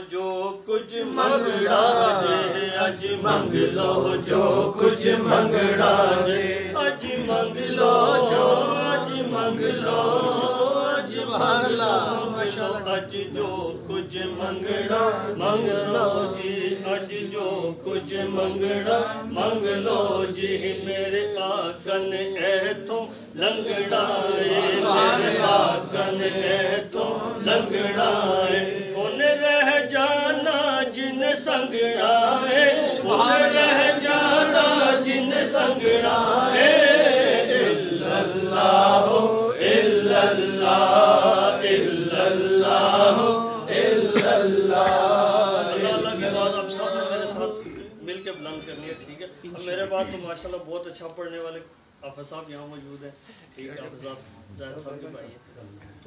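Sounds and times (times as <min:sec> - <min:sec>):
men chanting together: 0:00.0 - 0:47.8.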